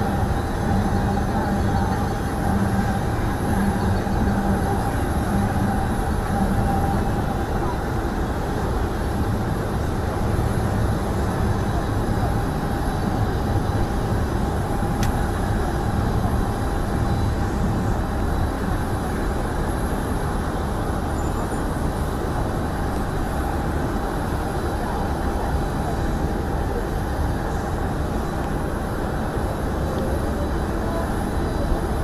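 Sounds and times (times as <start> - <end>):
faint constant whine: 0.0 - 32.0.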